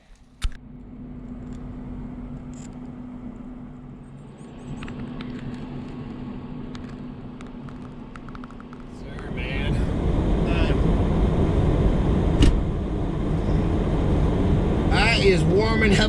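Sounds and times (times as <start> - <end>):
van engine idling: 0.6 - 16.0.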